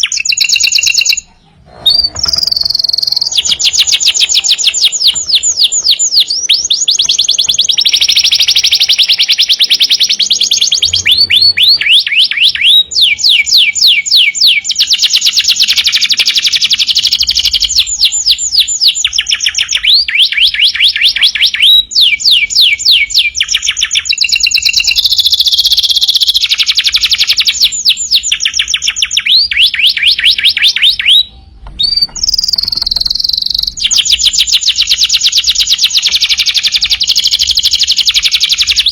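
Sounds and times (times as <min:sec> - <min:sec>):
canary trilling song: 0:00.0 - 0:38.9.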